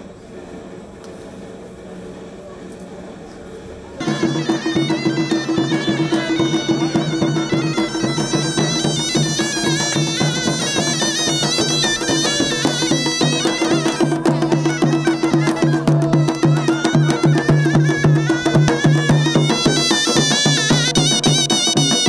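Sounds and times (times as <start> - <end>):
large drum beating rhythm: 4.0 - 22.0
reedy shawms wailing melody: 4.0 - 22.0.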